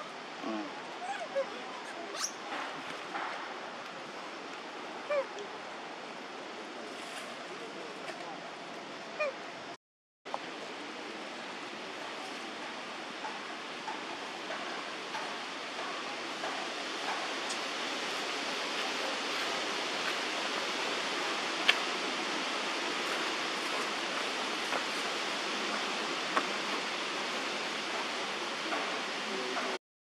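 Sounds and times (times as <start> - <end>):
steady outdoor hiss: 0.0 - 29.8.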